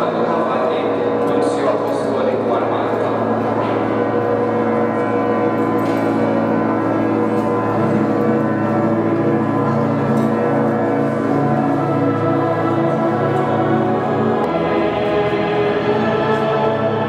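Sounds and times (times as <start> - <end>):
church bells pealing: 0.0 - 17.0.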